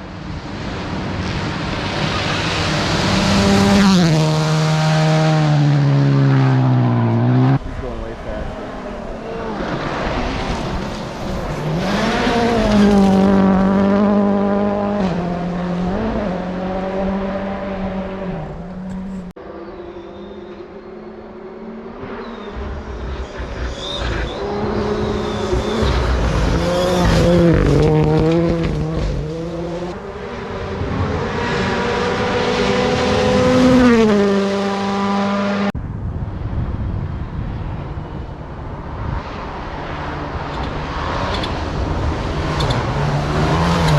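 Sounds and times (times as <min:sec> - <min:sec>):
rally car engines at high revs: 0:00.5 - 0:35.8, 0:39.0 - 0:43.9.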